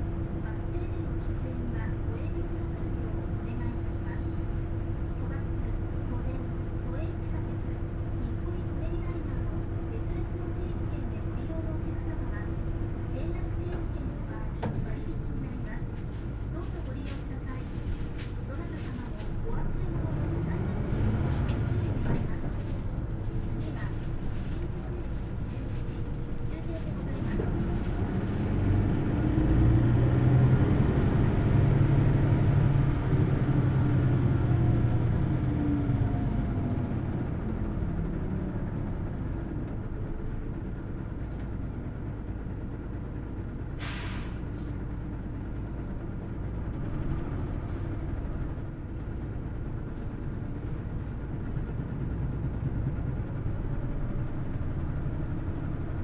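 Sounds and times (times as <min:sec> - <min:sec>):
bus engine whining: 0:07.8 - 0:56.0.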